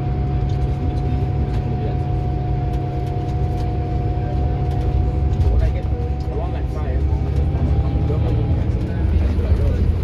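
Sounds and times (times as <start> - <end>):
bus engine rumble and whine: 0.0 - 10.0.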